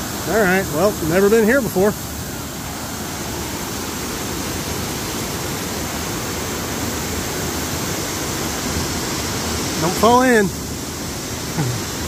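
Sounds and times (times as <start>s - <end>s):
water rushing over a weir: 0.0s - 12.0s.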